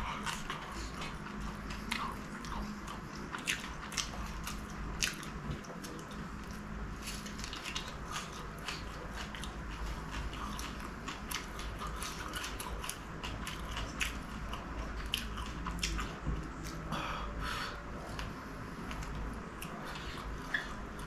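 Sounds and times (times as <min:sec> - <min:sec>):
crunchy chewing: 0:00.0 - 0:17.4, 0:18.0 - 0:21.0.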